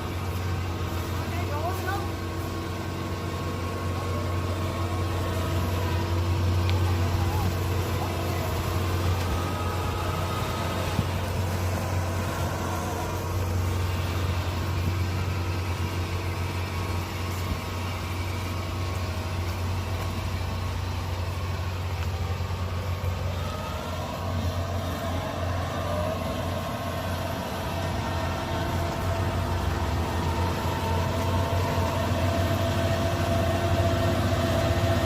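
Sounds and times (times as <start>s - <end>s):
diesel engine humming: 0.0s - 35.0s.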